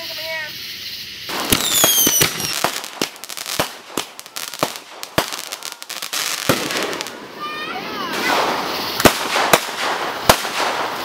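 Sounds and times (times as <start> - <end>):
fireworks bangs and pops: 0.0 - 11.0
fireworks whistles: 0.0 - 11.0.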